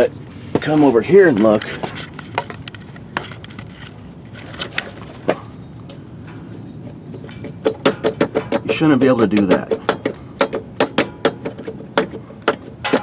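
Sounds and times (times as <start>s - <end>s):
metallic clicks and knocks of driveshaft: 0.6s - 13.0s.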